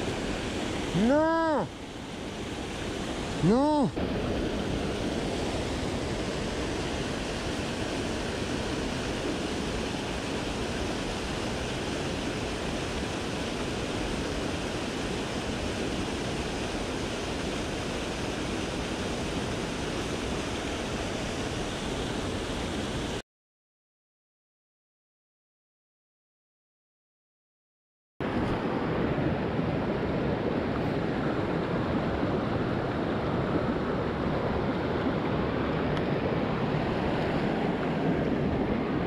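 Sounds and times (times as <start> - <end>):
river water rushing: 0.0 - 23.2, 28.2 - 39.0.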